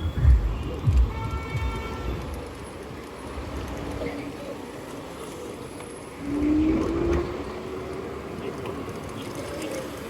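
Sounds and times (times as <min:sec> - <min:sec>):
rush of wind and road: 0:00.0 - 0:10.0.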